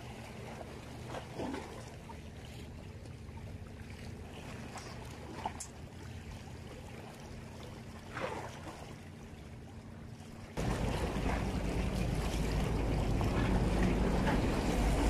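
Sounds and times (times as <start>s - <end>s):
faint wash of water: 0.0s - 15.0s
steady low hum: 0.0s - 15.0s.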